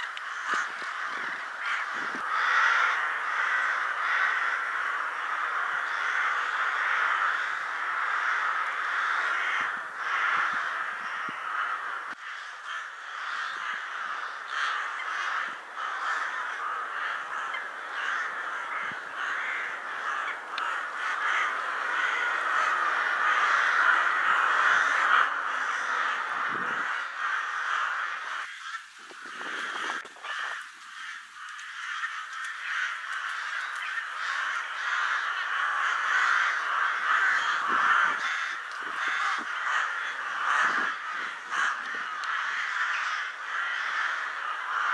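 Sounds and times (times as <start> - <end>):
flock of rooks cawing: 0.0 - 44.9.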